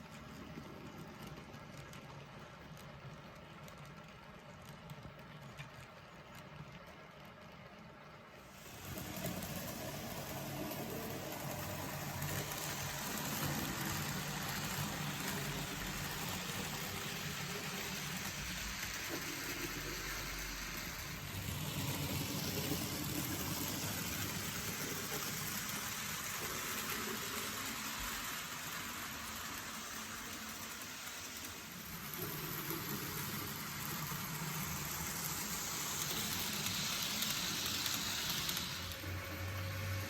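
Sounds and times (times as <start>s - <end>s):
model train running on rails: 0.0s - 40.0s.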